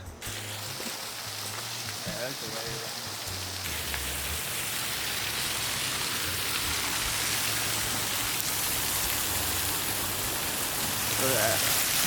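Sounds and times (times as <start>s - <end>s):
running splashing water: 0.3s - 12.0s.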